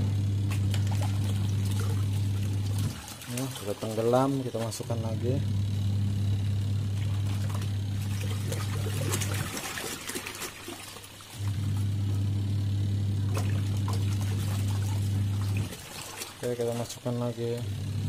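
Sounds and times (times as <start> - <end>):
water sloshing: 0.0 - 5.7, 6.6 - 12.3, 13.1 - 18.0
washing machine motor hum: 0.0 - 18.0.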